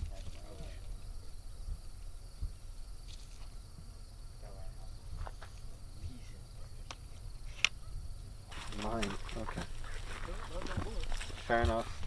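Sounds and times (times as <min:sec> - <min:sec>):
insect chirring: 0:00.0 - 0:12.0.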